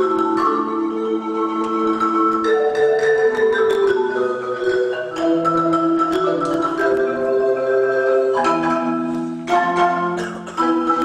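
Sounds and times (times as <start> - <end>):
marimba and vibraphone chords: 0.0 - 11.0.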